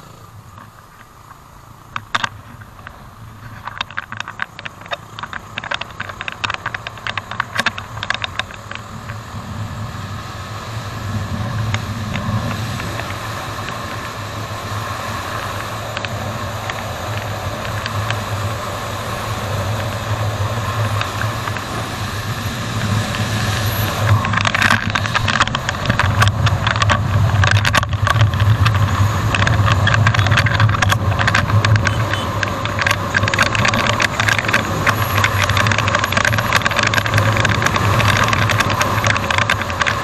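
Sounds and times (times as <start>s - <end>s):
motorcycle engine running: 0.0s - 40.0s
sharp clicks and crackles: 0.0s - 40.0s
wind noise on microphone: 2.1s - 40.0s.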